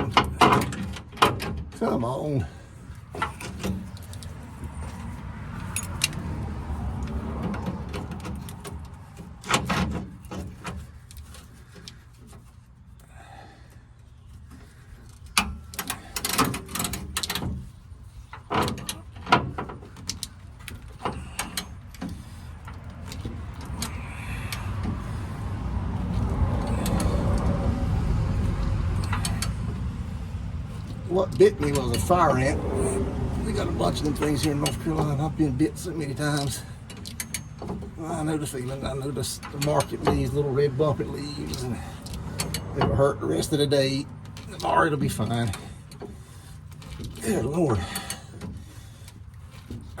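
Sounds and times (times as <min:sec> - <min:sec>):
hand tools clicking and scraping metal: 0:00.0 - 0:50.0.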